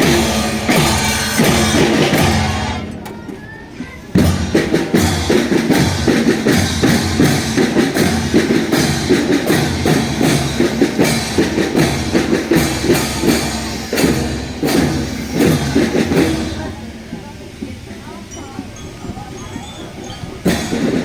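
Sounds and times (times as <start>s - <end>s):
marching drum band playing: 0.0s - 21.0s.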